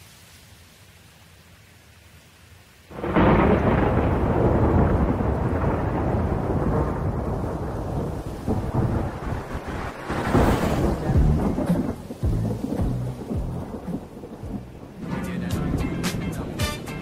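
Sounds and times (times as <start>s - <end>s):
thunder clap and rumbling: 2.9s - 17.0s.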